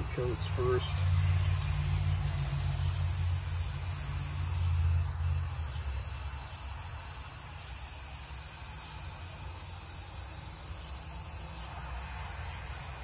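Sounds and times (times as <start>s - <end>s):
air compressor humming: 0.0s - 13.0s
airbrush hissing: 0.0s - 13.0s.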